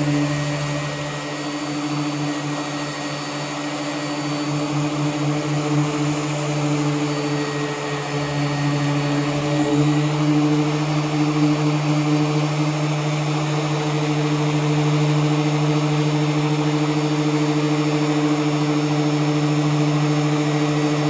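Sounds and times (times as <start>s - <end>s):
power sander sanding metal panel: 0.0s - 21.0s.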